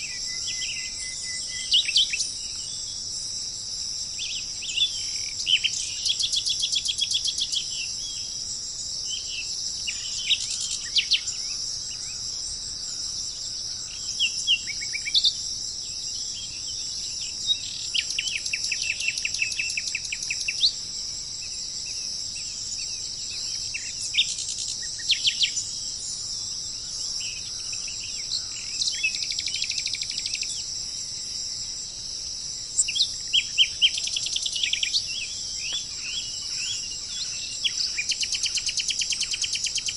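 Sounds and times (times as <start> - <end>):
insects droning: 0.0 - 39.9
songbirds chirping and trilling: 0.0 - 39.9.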